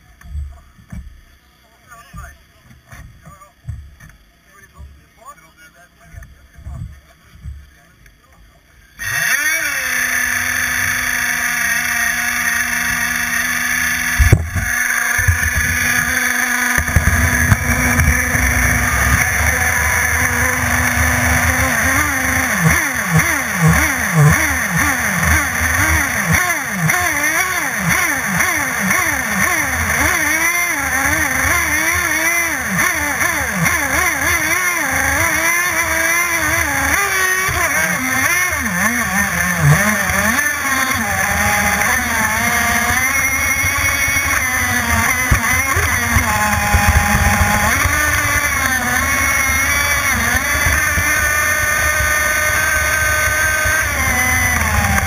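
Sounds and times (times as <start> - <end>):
model boat engine running: 8.8 - 55.0.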